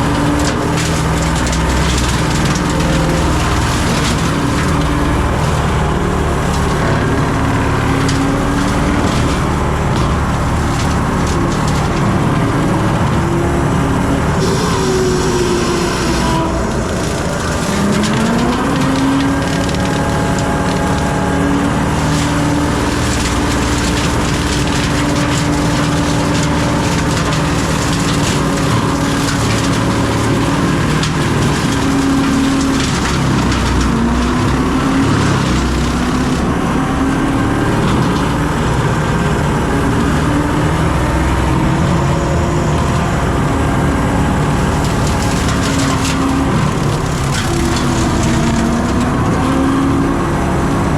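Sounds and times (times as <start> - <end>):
brush cutter shredding wood: 0.0 - 50.9
diesel engine running hard: 0.0 - 50.9.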